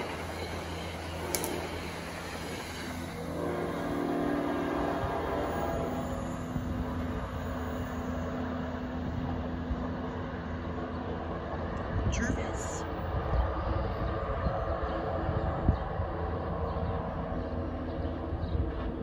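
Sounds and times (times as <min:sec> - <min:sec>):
diesel locomotive engine drone: 0:00.0 - 0:19.0
rail rumble: 0:00.0 - 0:19.0.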